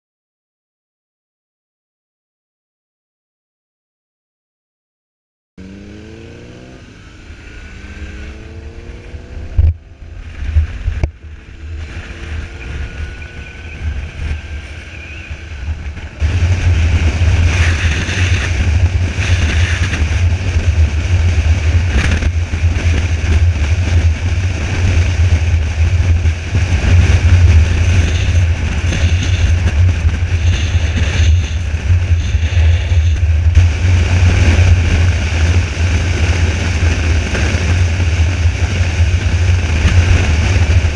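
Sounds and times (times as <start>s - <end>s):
motorcycle engine accelerating: 5.6s - 40.9s
wind buffeting microphone: 7.9s - 40.9s.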